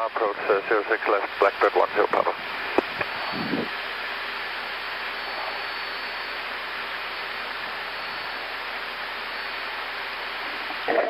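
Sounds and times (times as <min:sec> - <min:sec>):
cockpit background hiss: 0:00.0 - 0:10.9
faint high whine: 0:00.0 - 0:11.0.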